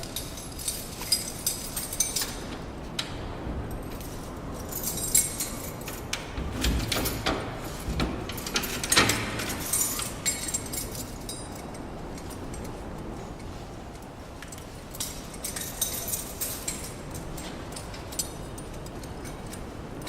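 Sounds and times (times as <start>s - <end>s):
metallic jingling: 0.0s - 2.7s, 3.8s - 13.6s, 14.6s - 20.0s.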